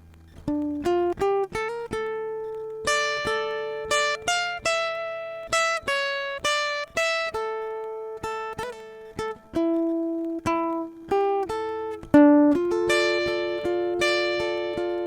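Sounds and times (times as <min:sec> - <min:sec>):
plucked string instrument melody: 0:00.0 - 0:15.0.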